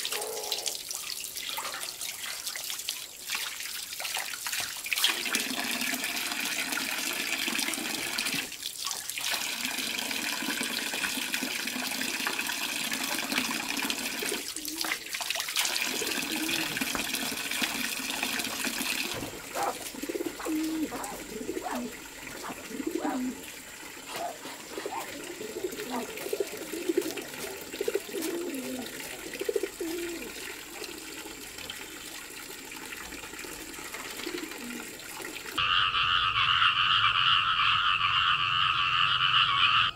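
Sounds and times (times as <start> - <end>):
tap water pouring into basin: 0.0 - 35.6.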